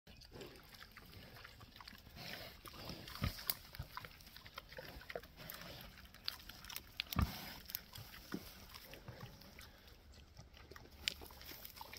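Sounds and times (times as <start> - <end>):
pigs chewing and snuffling: 0.1 - 11.9
pig grunts: 0.3 - 6.1, 7.0 - 11.0.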